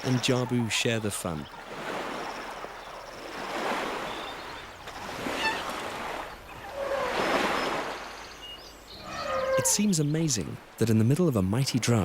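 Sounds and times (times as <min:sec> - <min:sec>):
elephants splashing in water: 0:00.0 - 0:10.0.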